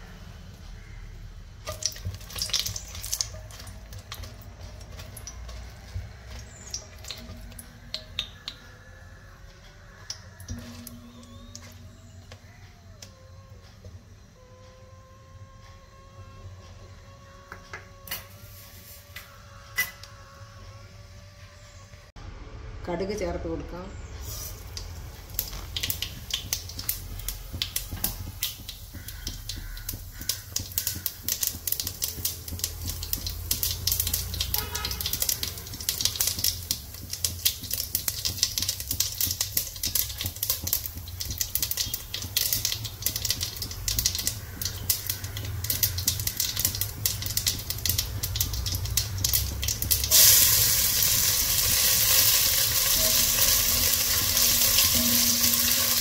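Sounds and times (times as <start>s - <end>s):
seeds popping in hot oil: 0.8s - 8.8s, 9.4s - 14.1s, 17.2s - 20.2s, 24.2s - 56.0s
onion sizzling: 1.5s - 8.7s, 9.9s - 13.4s, 17.2s - 20.4s, 24.1s - 56.0s.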